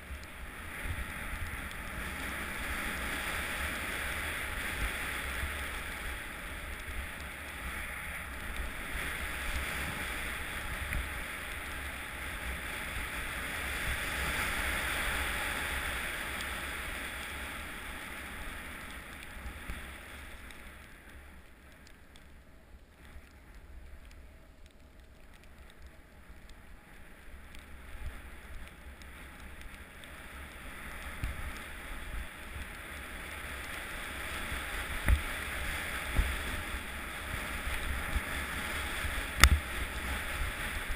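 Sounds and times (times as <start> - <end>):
sliding through snow hiss: 0.0 - 21.4, 26.2 - 40.9
wind rushing over camera: 0.0 - 40.9.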